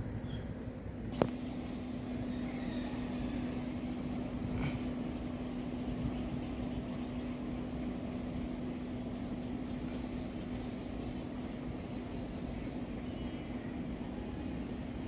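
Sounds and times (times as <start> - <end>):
locomotive engine drone: 0.0 - 15.0.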